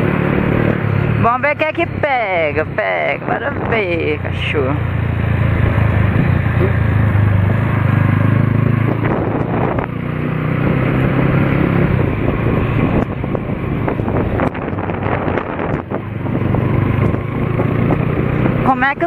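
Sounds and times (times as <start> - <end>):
vehicle engine running at low revs: 0.0 - 19.0
wind buffeting microphone: 0.3 - 4.8, 5.6 - 19.0.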